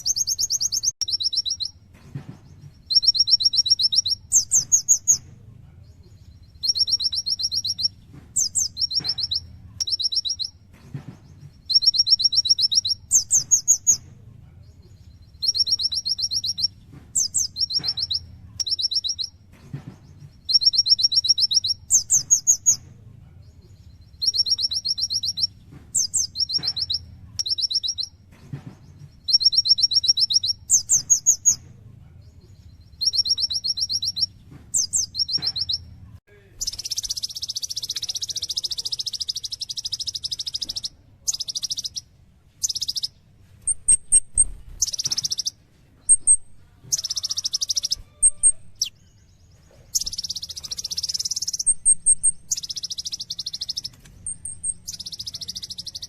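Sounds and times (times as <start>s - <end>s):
sunbird singing high trills: 0.0s - 1.8s, 2.5s - 5.3s, 6.0s - 10.6s, 11.4s - 14.0s, 15.0s - 19.4s, 20.1s - 22.8s, 23.8s - 28.2s, 29.0s - 31.6s, 32.6s - 35.9s, 36.6s - 56.0s.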